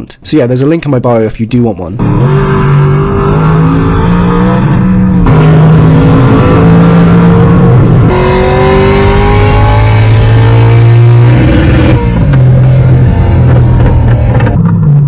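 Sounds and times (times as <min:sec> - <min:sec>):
simulated engine sound from speakers: 0:02.0 - 0:15.0.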